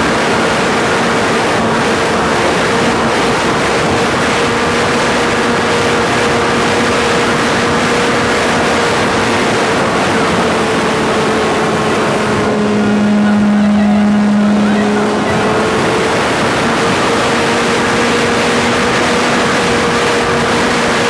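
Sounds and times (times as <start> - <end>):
model plane engine running: 0.0 - 21.0
wind rush over microphone: 0.0 - 21.0.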